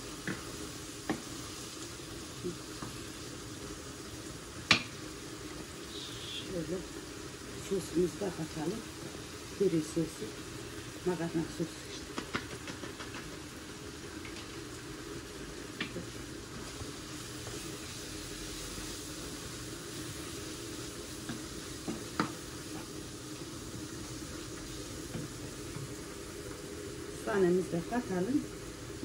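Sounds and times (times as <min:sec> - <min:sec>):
vegetables sizzling in a pan: 0:00.0 - 0:29.0.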